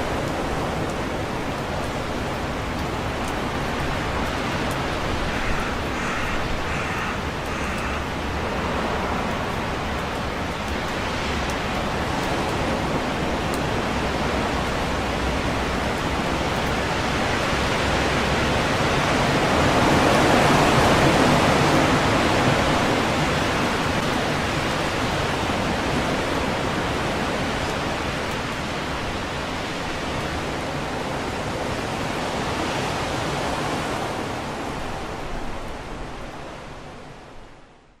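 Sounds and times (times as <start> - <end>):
wind rushing through trees: 0.0 - 38.0.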